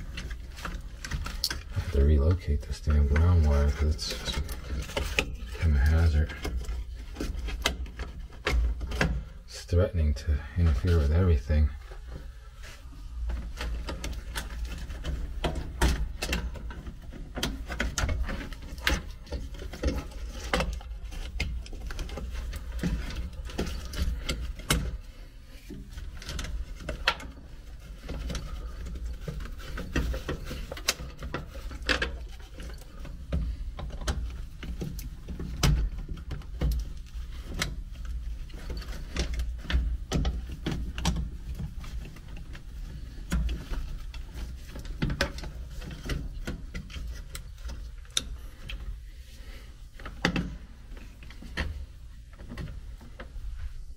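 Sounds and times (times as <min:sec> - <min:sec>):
wires rattling against sheet metal: 0:00.0 - 0:53.7.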